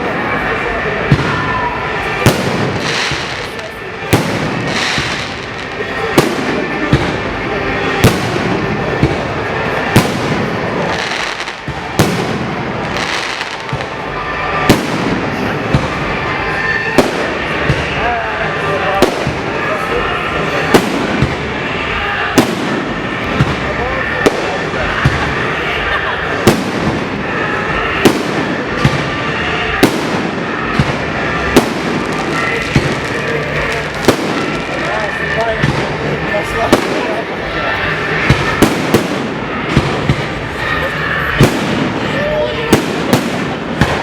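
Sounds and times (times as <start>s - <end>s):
firework crackle: 0.0s - 44.0s
loud firework bangs: 0.0s - 44.0s.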